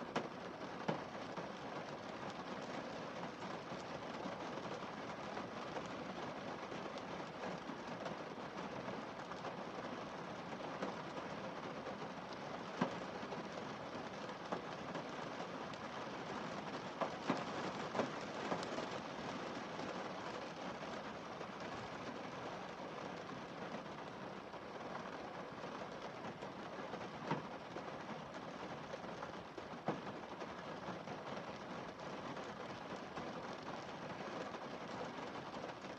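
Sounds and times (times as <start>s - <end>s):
rain on car windscreen: 0.0s - 35.9s.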